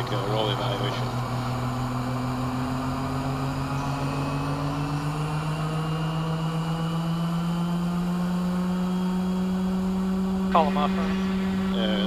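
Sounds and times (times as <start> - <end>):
aircraft engine and propeller: 0.0 - 12.0.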